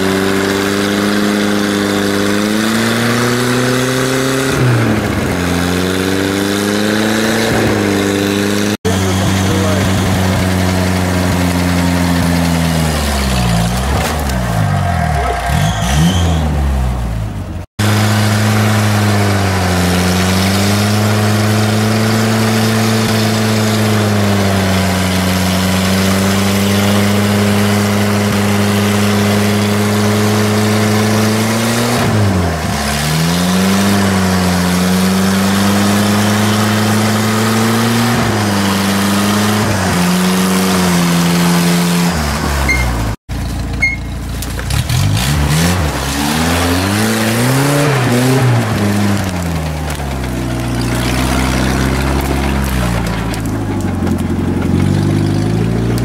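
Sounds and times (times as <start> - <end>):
engine revving under load: 0.0 - 56.0.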